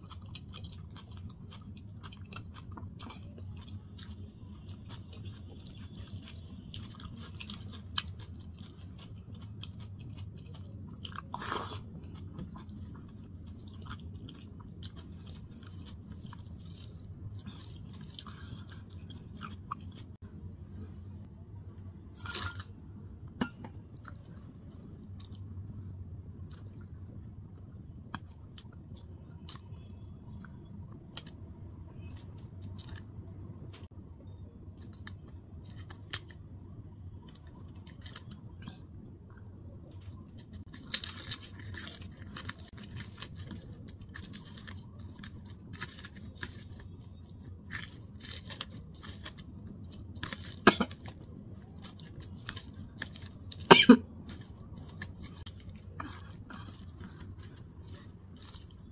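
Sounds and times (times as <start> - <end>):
person chewing food: 0.0 - 20.2, 23.4 - 31.4, 37.0 - 58.9
steady low hum: 0.0 - 58.9.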